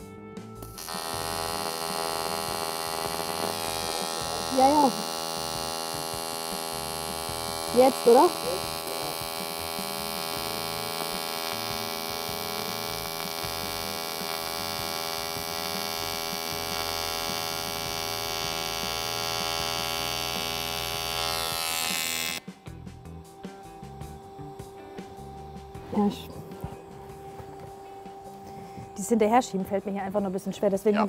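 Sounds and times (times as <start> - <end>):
welding arc buzzing: 0.6 - 31.0.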